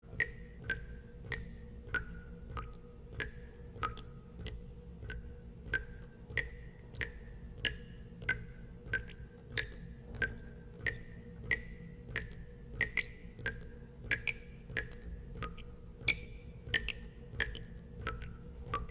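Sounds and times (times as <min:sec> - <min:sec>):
steady low hum: 0:00.0 - 0:18.9
water drops plinking into water: 0:00.1 - 0:18.9.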